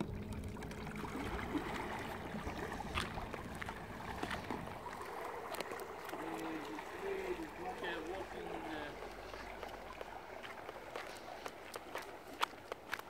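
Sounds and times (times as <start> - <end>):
water churning and lapping: 0.0 - 13.0.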